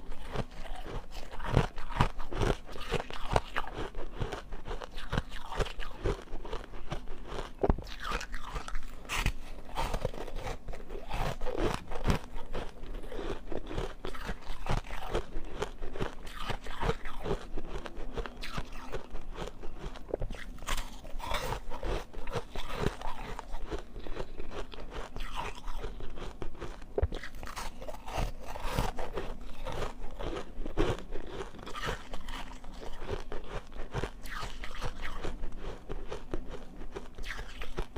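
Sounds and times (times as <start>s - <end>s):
ice being chewed: 0.0s - 37.9s.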